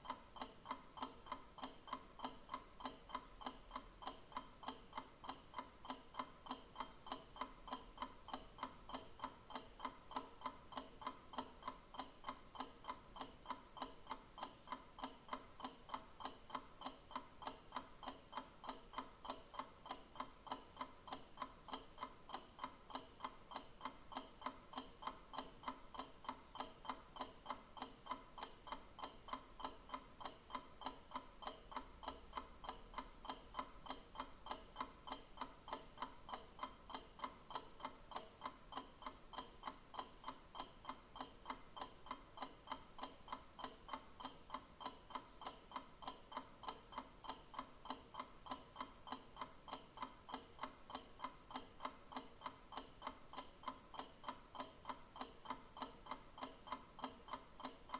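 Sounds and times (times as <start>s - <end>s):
clock ticking: 0.0s - 57.9s.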